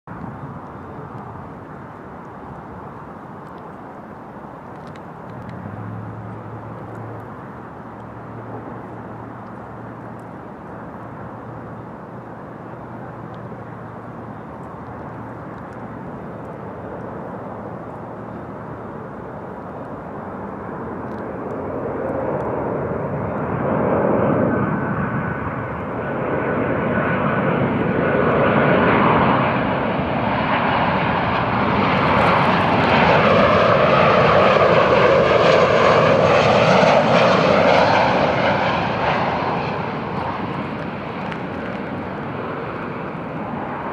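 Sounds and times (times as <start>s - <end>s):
jet engines rumbling: 0.1s - 43.9s.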